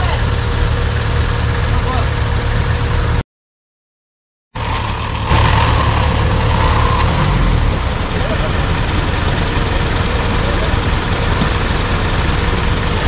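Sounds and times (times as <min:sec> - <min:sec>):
off-road vehicle engine rumbling: 0:00.0 - 0:03.2, 0:04.6 - 0:13.0.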